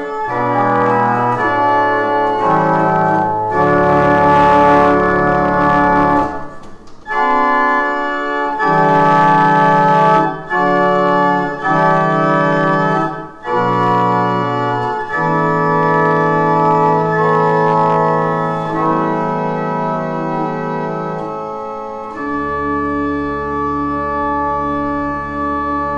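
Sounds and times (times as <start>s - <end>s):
deep pedal bass notes: 0.0s - 25.9s
pipe organ chords: 0.0s - 25.9s.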